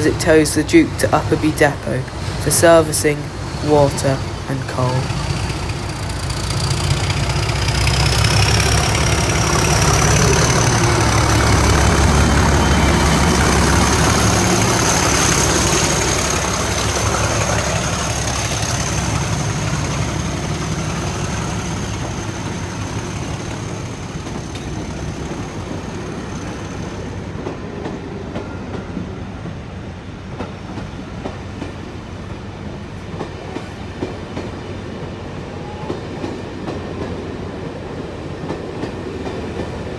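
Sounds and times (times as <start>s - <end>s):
diesel locomotive engine: 0.0s - 39.9s
wheel and rail noise: 0.0s - 39.9s.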